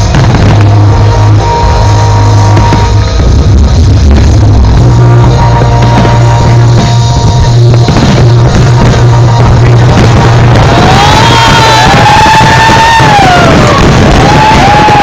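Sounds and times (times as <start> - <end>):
deep bass note: 0.0 - 15.0
high tone: 0.0 - 15.0
loud music with drums: 0.0 - 15.0.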